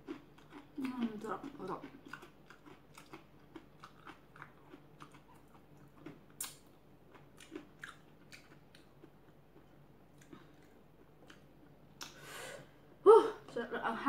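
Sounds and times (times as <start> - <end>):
person chewing food: 0.0 - 12.2.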